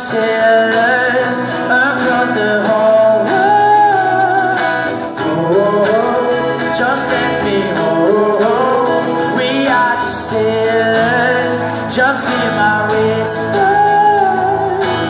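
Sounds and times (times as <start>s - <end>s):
acoustic guitars strumming: 0.0s - 15.0s
men singing: 0.0s - 15.0s.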